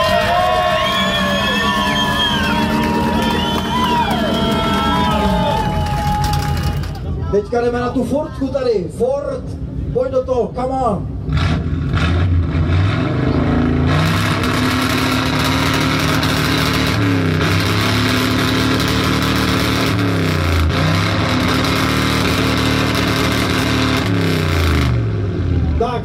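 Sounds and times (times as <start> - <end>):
pickup truck engine revving: 0.0 - 7.0, 11.1 - 25.8.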